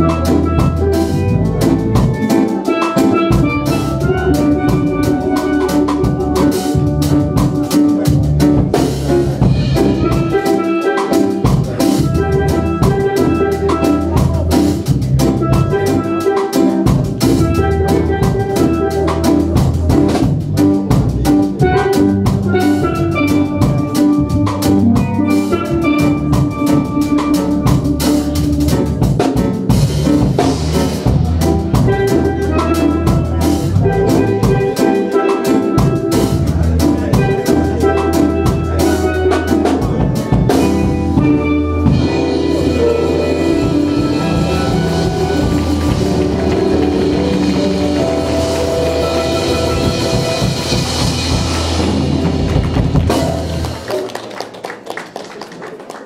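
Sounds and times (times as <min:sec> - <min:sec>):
steel pans playing melody: 0:00.0 - 0:54.0
keyboard: 0:00.0 - 0:54.1
drum kit: 0:00.0 - 0:54.9.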